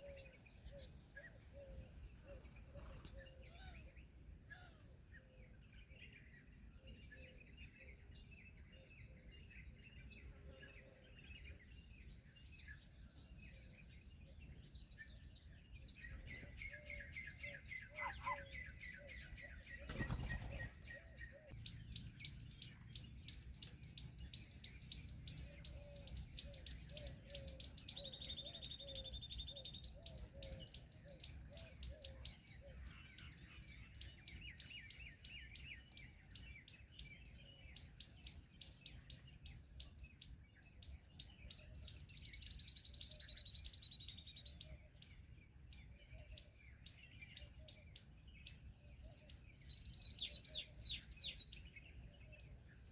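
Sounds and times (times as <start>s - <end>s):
birds chirping: 0.0s - 52.9s.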